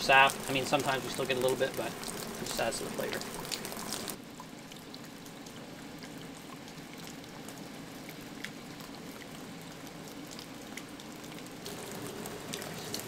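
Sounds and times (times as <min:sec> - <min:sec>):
sap boiling with bubbling hiss: 0:00.0 - 0:13.0.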